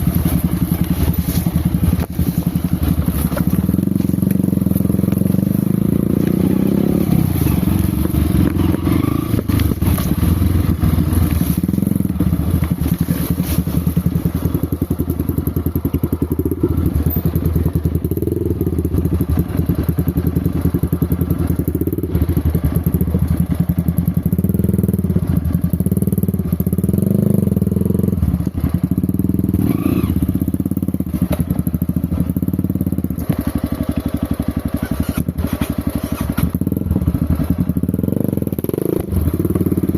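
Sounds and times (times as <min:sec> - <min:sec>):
off-road motorcycle engine running: 0:00.0 - 0:39.9.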